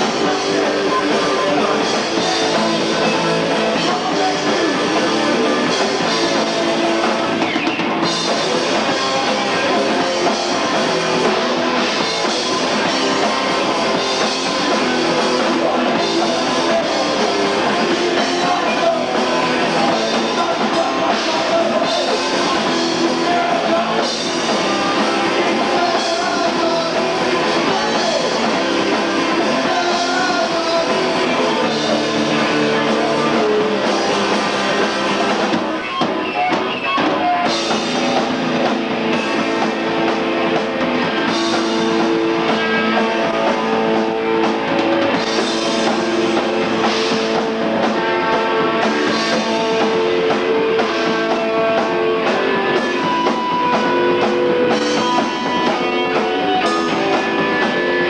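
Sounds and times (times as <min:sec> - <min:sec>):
hardcore band playing live: 0:00.0 - 0:58.0.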